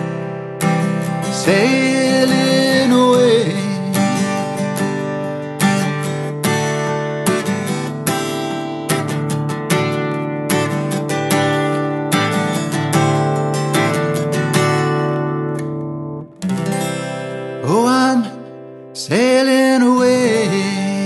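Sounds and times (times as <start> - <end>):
acoustic guitar strummed: 0.0 - 21.0.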